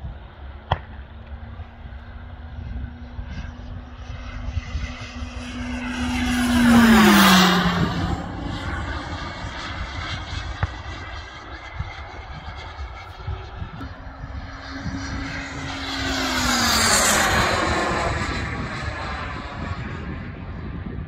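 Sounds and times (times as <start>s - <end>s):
model jet flying by: 0.0s - 21.0s.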